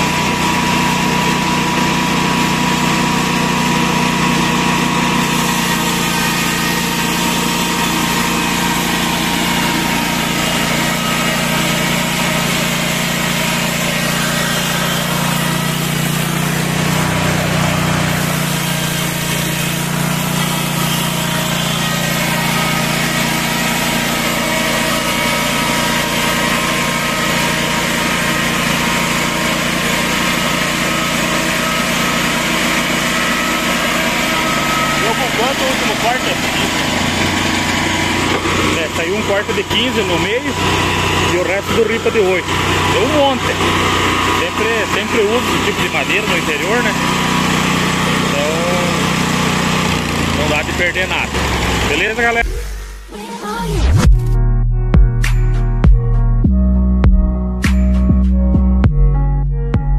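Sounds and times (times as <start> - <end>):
sawmill engine droning: 0.0 - 54.2.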